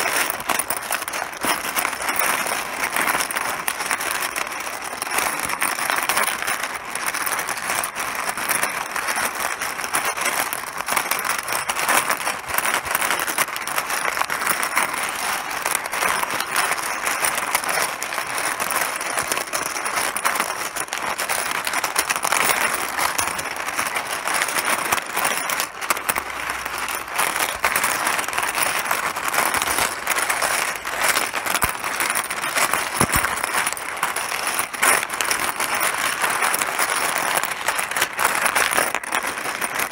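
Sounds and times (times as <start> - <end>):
mahjong tiles clattering: 0.0 - 39.9.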